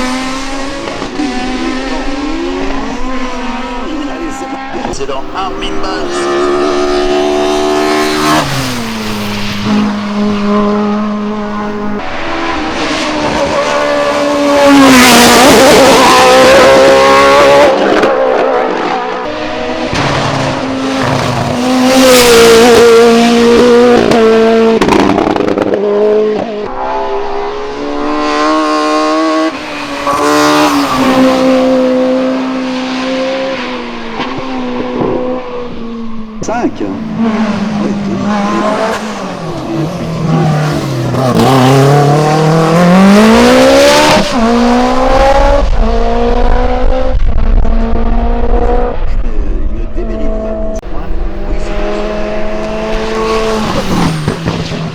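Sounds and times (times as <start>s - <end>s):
race car engines at full throttle: 0.0s - 54.9s.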